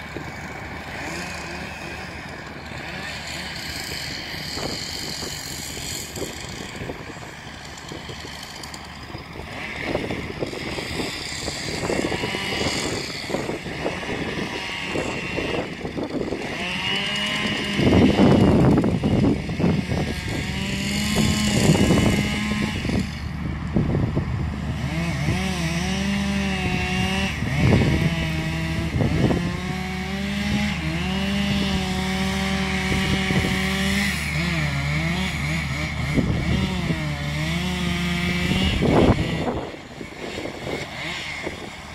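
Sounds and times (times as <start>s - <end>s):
chainsaw cutting: 0.0s - 41.9s
diesel engine running: 0.0s - 41.9s.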